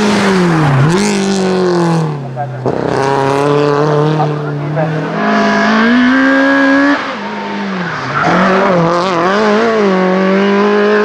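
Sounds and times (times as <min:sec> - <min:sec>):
racing car engine revving: 0:00.0 - 0:11.0.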